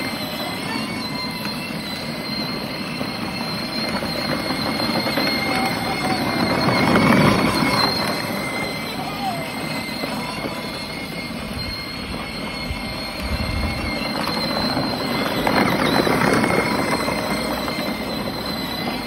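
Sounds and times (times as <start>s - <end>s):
electric motor whine: 0.0s - 19.0s
plastic wheels rattling on asphalt: 0.0s - 19.0s.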